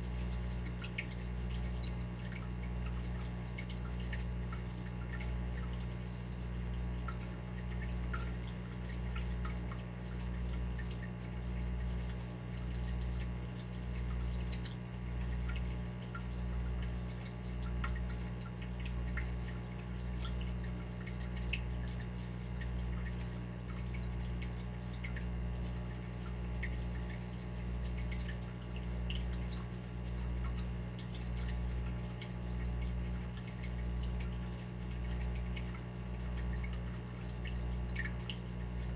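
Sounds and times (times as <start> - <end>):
water dripping: 0.0 - 38.9.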